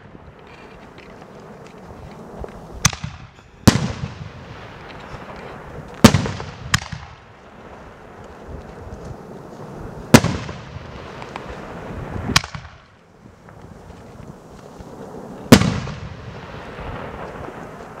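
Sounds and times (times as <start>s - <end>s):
firework bangs: 0.0s - 18.0s.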